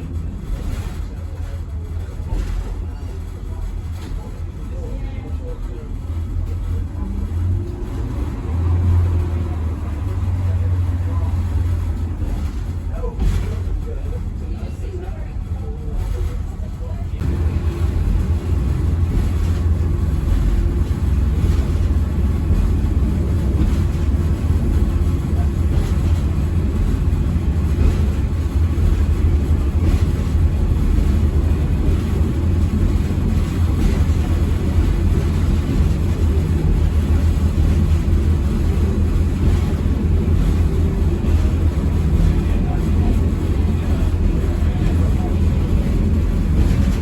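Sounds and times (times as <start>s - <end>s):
train rumbling from on board: 0.0s - 47.0s.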